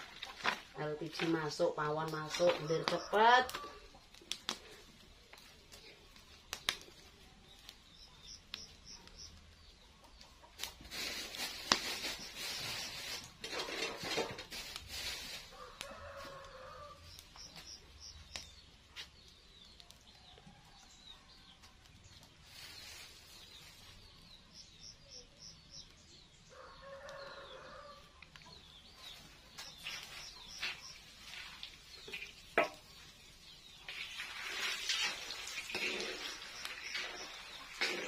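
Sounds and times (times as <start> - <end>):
wood fire cracking: 0.0 - 26.0, 28.2 - 38.0
small birds chirping: 2.1 - 13.3, 15.0 - 38.0.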